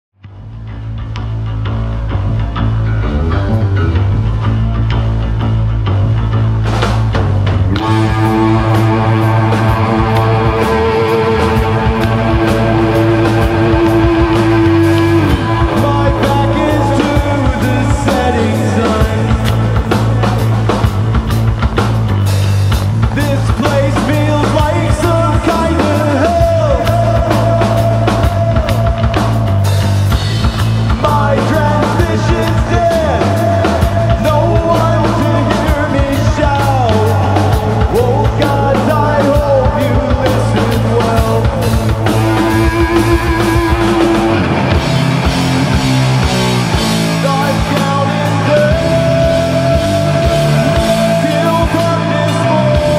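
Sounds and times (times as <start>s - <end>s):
electric guitar bending melody: 0.2s - 52.9s
heavy rock band playing: 0.3s - 52.9s.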